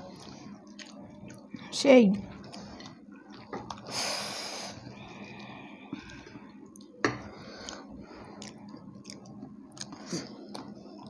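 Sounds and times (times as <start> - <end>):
food being chewed: 0.1 - 1.7, 2.3 - 4.0, 4.7 - 11.0.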